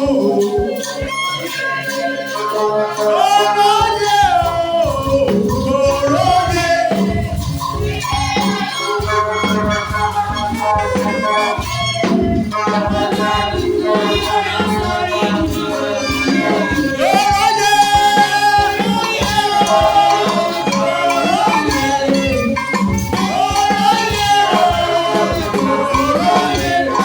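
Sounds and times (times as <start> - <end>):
person singing: 0.0 - 27.0
steady beat with shakers: 0.0 - 27.0.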